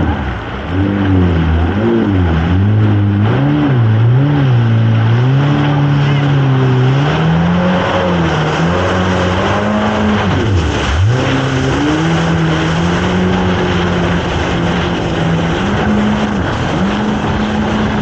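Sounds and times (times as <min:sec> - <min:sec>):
jet ski engine running hard: 0:00.0 - 0:18.0
water spray rushing: 0:00.0 - 0:18.0.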